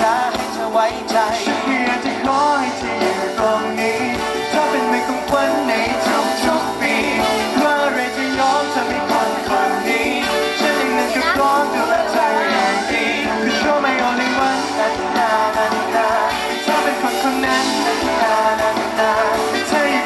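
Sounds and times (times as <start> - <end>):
electric guitar: 0.0 - 20.0
man singing into a microphone: 0.0 - 20.0
rock band playing: 0.0 - 20.0.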